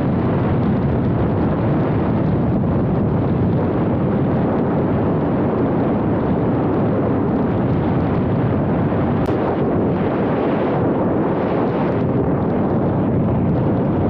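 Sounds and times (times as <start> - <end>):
car road and wind rumble: 0.0 - 14.0.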